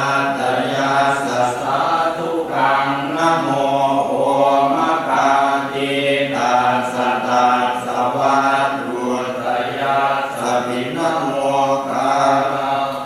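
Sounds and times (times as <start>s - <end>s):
voices chanting: 0.0s - 13.0s.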